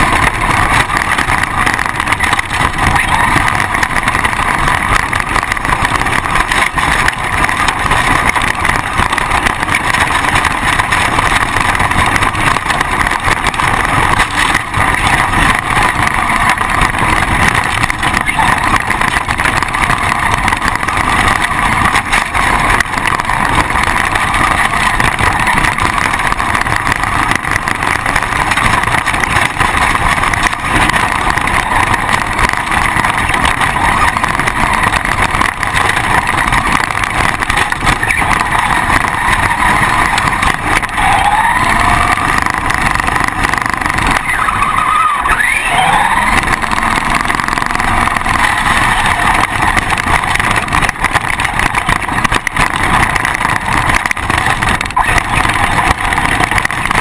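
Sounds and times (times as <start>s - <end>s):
rc car drivetrain rumble: 0.0s - 57.0s.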